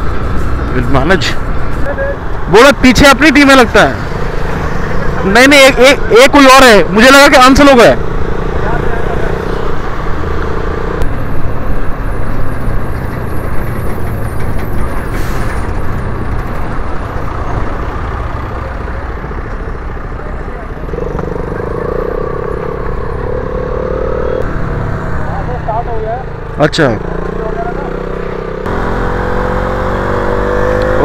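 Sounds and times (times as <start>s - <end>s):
motorcycle engine and tyres: 2.6s - 31.0s.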